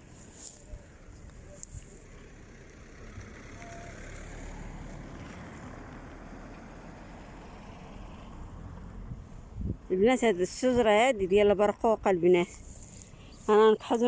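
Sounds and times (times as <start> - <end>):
passing vehicle rumble: 0.0 - 14.0.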